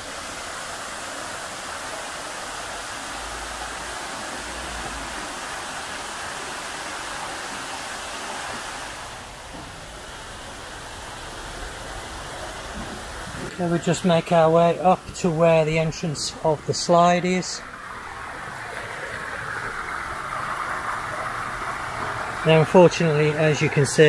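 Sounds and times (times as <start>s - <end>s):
waterfall splashing into pool: 0.0s - 15.1s, 16.3s - 24.0s.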